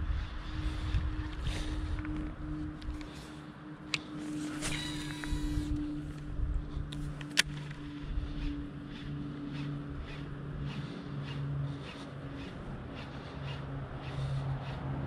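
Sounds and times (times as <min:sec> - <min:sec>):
low steady hum: 0:00.0 - 0:15.0
fishing reel ticking: 0:00.9 - 0:14.8.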